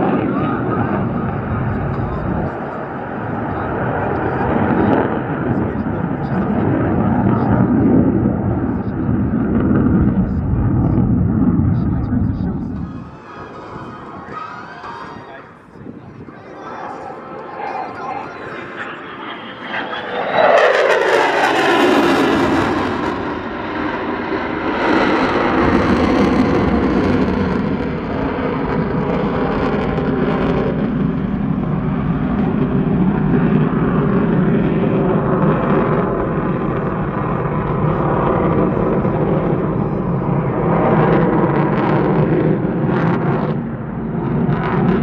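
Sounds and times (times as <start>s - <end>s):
jet engine roar: 0.0s - 45.0s.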